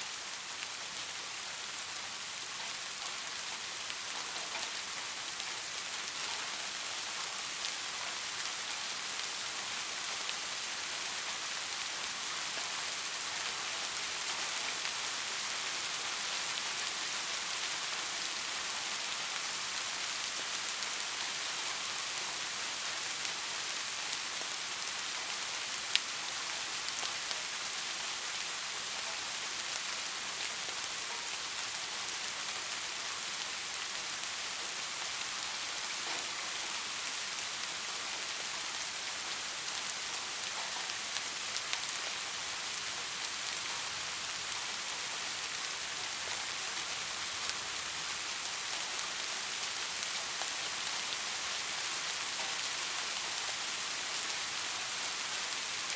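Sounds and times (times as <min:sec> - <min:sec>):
steady rain hissing: 0:00.0 - 0:55.9.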